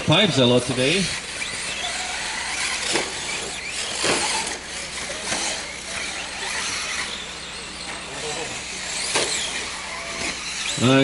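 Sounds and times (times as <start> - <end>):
rc truck motors and tyres hissing: 0.0 - 11.0
sharp sounds of trucks landing: 1.1 - 10.8.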